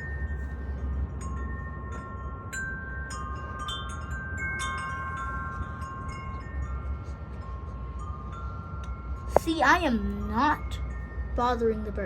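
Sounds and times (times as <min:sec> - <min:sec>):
low steady rumble: 0:00.0 - 0:12.0
wind chimes ringing: 0:00.0 - 0:12.0.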